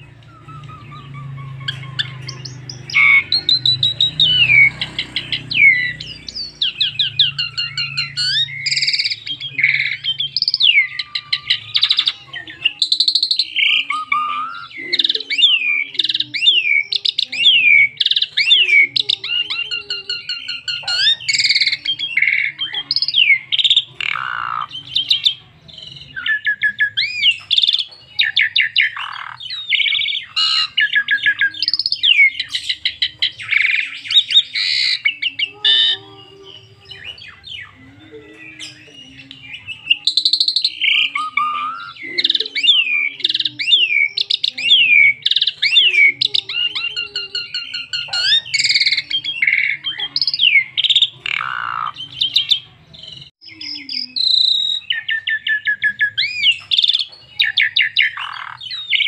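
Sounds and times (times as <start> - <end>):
starling singing: 0.0 - 59.0.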